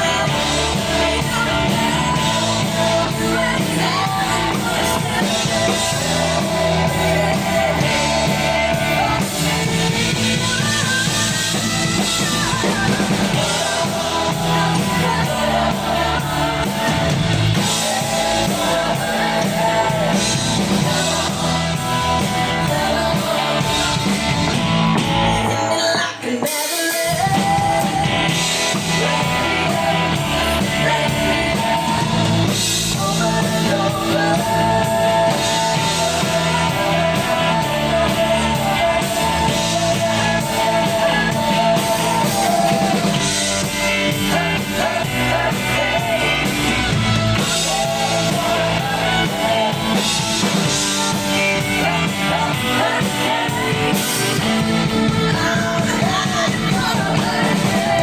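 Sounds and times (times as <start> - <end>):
live rock band: 0.0 - 58.0
person singing: 0.0 - 58.0.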